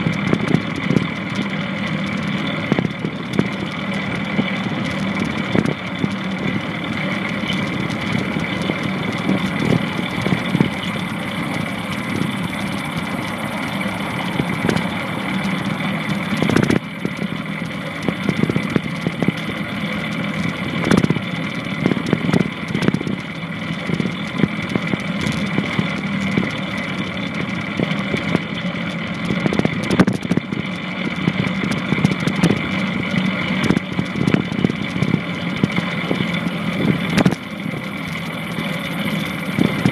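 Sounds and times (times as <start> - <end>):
longboard wheels rolling on pavement: 0.0 - 39.9.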